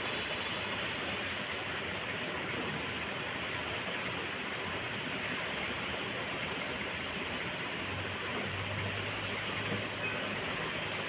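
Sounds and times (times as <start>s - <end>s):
rain on concrete: 0.0s - 11.0s.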